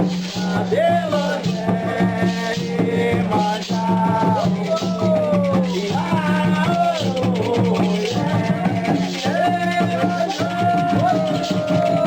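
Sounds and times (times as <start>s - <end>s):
rhythmic percussion: 0.0s - 12.0s
shaken rattle: 0.0s - 12.0s
voices singing a chant: 0.0s - 12.0s.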